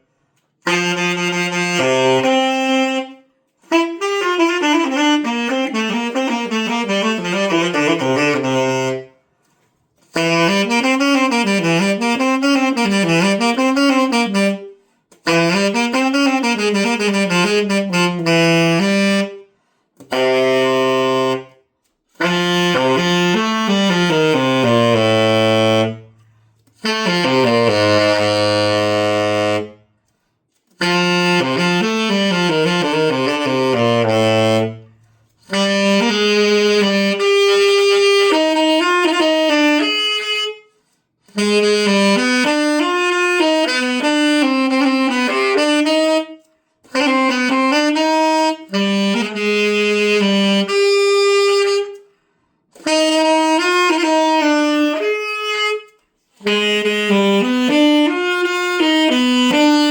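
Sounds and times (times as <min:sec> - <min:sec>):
tenor saxophone playing: 0:00.1 - 0:59.9.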